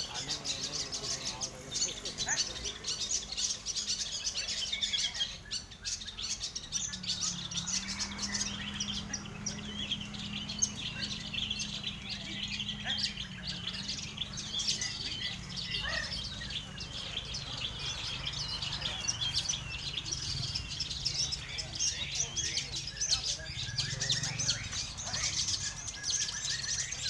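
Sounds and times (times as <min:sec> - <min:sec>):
shrikes singing and chattering: 0:00.0 - 0:27.0.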